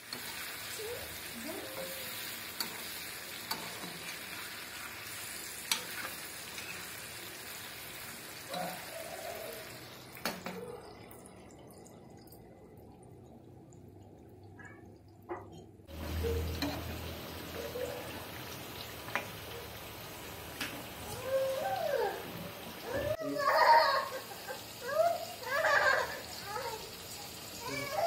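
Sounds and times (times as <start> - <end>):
prawns sizzling in oil: 0.0 - 14.6, 15.8 - 28.0.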